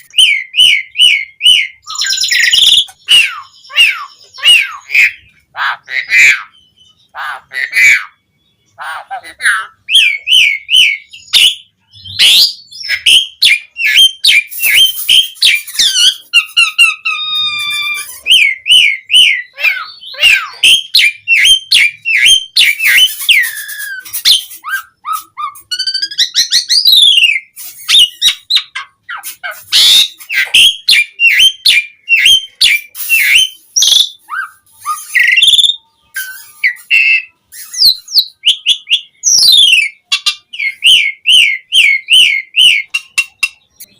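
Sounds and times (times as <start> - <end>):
bird singing whistled song: 0.0 - 5.4, 9.7 - 43.9.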